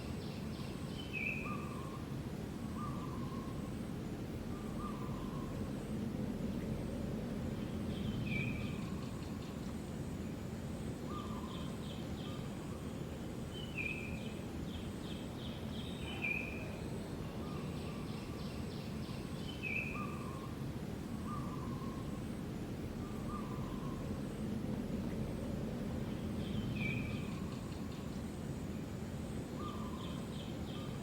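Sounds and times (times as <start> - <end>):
birds calling with whistled notes: 0.0 - 6.7, 7.5 - 10.4, 11.0 - 25.3, 26.0 - 31.0
low background noise: 0.0 - 31.0.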